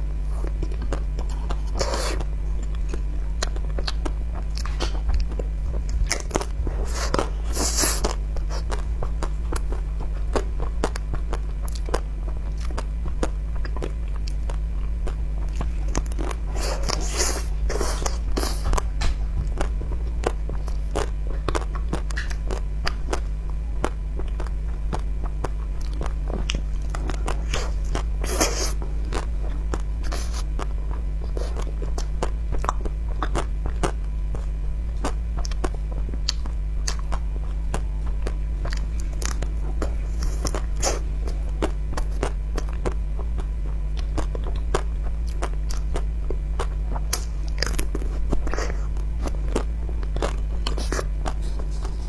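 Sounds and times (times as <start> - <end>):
hard coating crunching: 0.0 - 52.0
steady low hum: 0.0 - 52.0
biting and chewing ice cream bar: 0.3 - 52.0.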